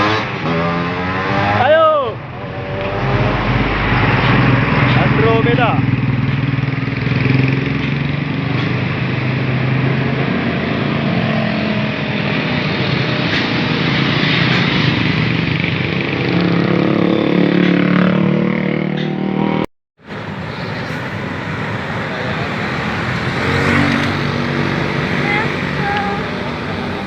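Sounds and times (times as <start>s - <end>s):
bus engine passing: 0.0s - 27.0s.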